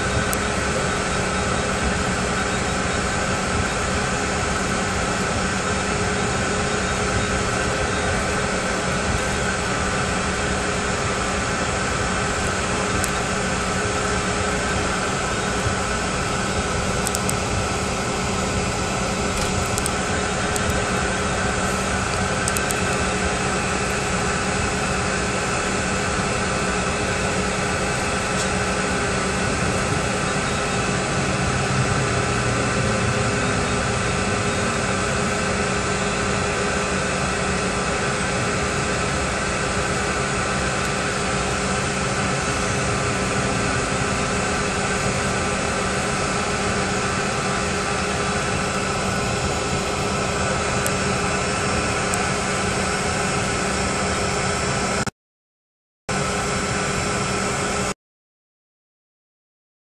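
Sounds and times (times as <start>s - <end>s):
cabin air system rushing: 0.0s - 55.1s
jet engines at low thrust: 0.0s - 55.1s, 56.1s - 58.0s.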